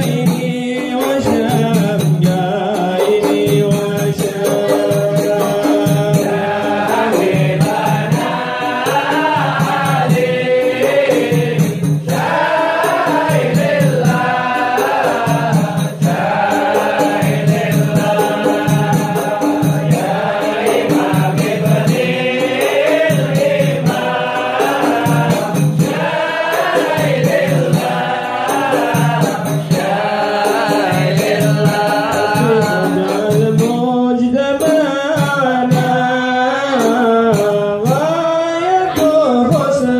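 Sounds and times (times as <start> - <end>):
frame drums beating: 0.0 - 39.9
men singing together: 0.0 - 39.9.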